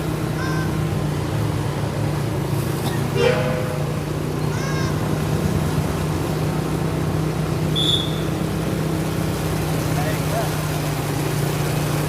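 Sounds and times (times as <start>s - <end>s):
vehicle engine hum and road noise: 0.0s - 12.0s.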